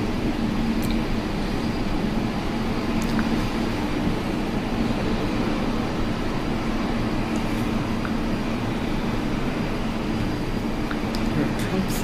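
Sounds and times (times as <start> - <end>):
mechanical rumble with low hum: 0.0 - 12.0.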